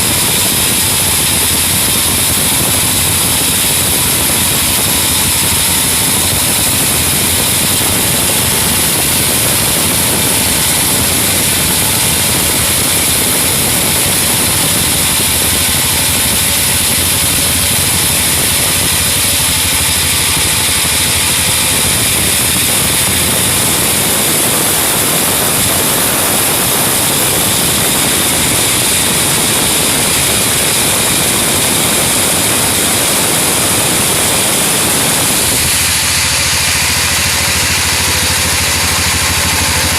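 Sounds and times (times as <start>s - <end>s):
band saw blade cutting wood: 0.0s - 39.9s
sawmill engine drone: 0.0s - 39.9s.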